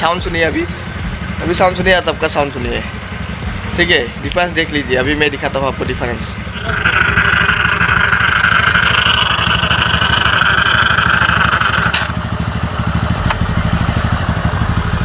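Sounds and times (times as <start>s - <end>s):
buzzing rattle of kick-start: 0.0s - 15.0s
scooter engine idling: 0.0s - 15.0s.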